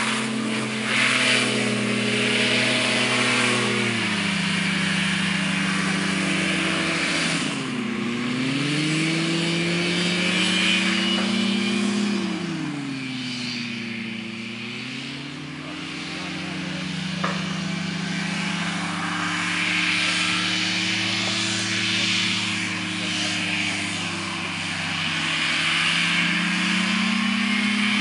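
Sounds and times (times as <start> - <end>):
hovercraft engine drone: 0.0 - 28.0
thrust fan rushing: 0.0 - 28.0.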